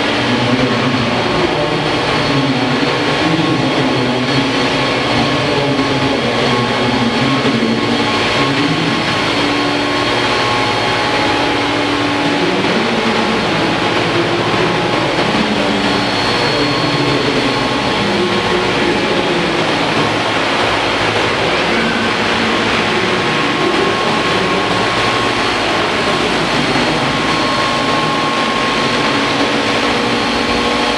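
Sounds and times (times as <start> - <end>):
model helicopter rotors whining: 0.0 - 30.9.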